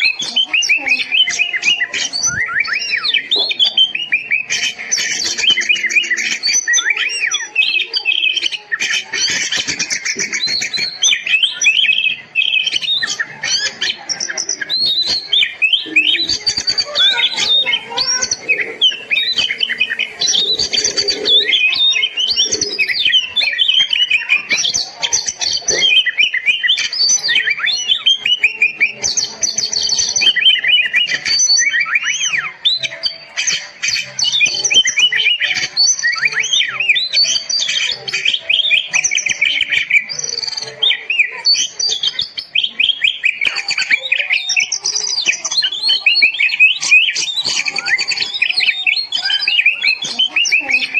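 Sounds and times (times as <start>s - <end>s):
songbird singing: 0.0s - 50.9s.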